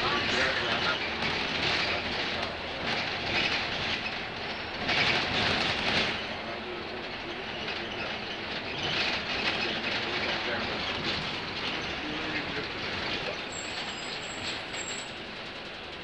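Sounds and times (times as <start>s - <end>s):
bus engine: 0.0s - 16.0s
road noise: 0.0s - 16.0s.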